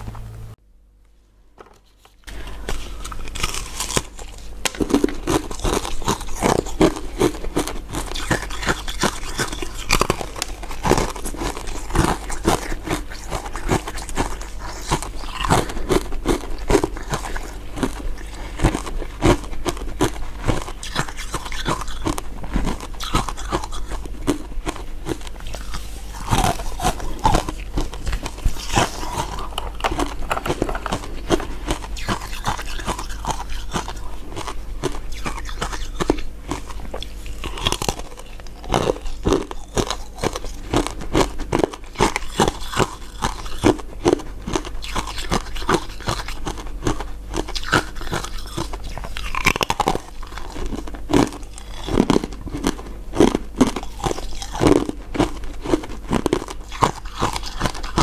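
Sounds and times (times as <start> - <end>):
steady low hum: 0.0 - 58.0
crunchy dessert chewing: 1.9 - 58.0.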